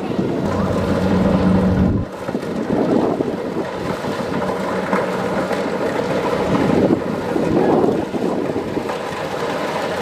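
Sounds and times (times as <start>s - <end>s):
combine harvester running: 0.3s - 10.0s.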